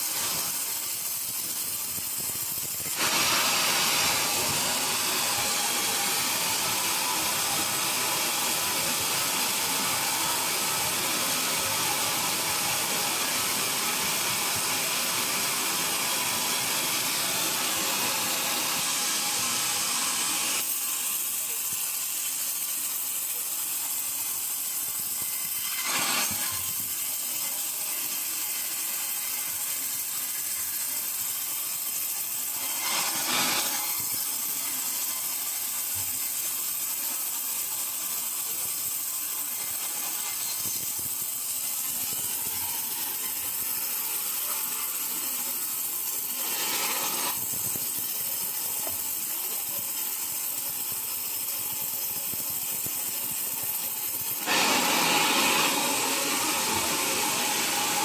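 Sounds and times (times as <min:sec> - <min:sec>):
pressure washer spray hissing: 0:00.0 - 0:58.0.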